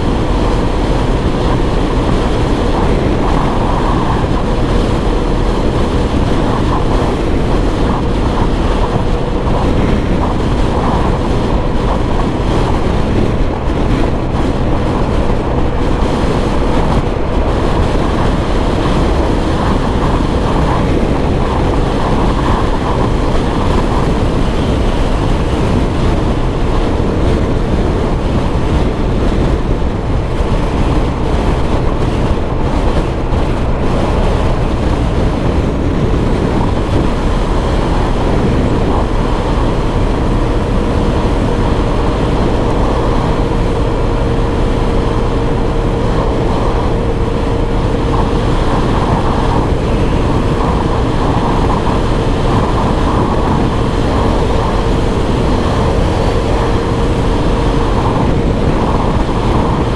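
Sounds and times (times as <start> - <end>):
scooter engine drone: 0.0 - 59.9
wind buffeting microphone: 0.0 - 59.9.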